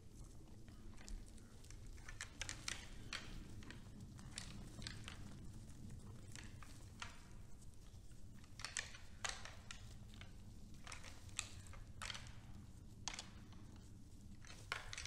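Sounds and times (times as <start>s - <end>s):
deer crunching on snow: 0.0s - 15.0s.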